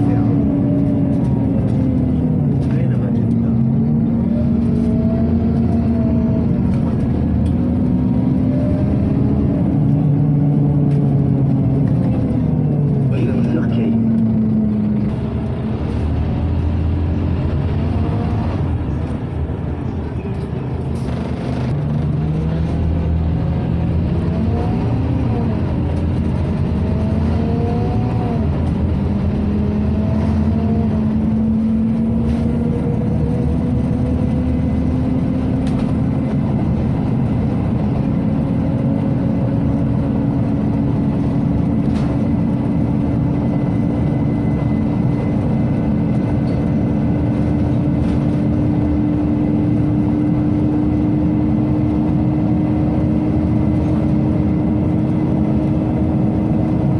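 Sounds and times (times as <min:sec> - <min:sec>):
bus engine drone: 0:00.0 - 0:56.9.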